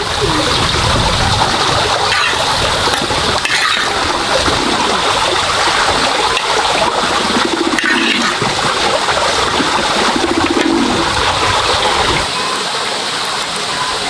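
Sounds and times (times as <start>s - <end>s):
water running and splashing: 0.0s - 14.0s.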